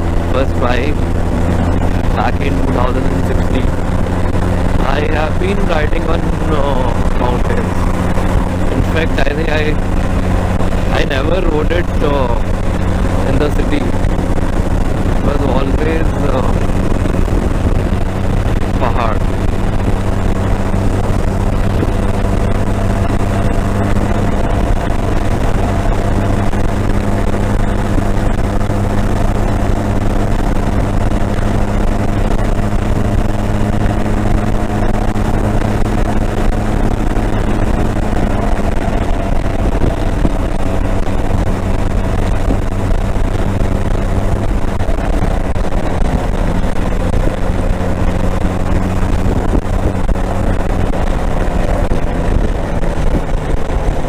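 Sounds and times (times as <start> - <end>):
motorcycle engine humming: 0.0 - 54.0
road and wind noise: 0.0 - 54.0.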